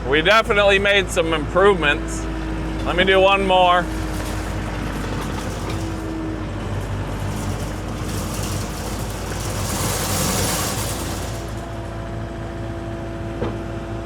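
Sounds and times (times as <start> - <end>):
loader diesel engine running: 0.0 - 12.8.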